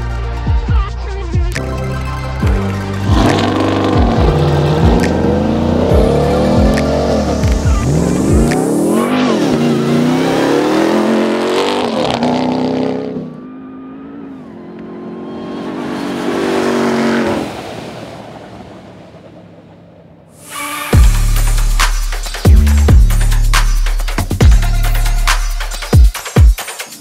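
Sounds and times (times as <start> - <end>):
truck engine revving: 2.4 - 25.7.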